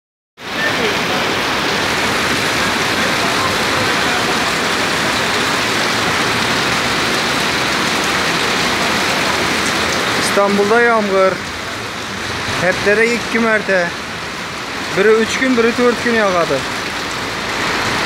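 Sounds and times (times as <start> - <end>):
heavy rain on street: 0.4 - 18.0.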